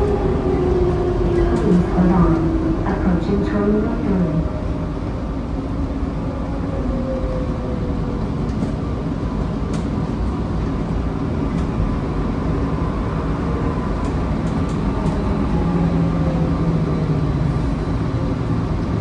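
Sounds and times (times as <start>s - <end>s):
train rumbling along guideway: 0.0s - 19.0s.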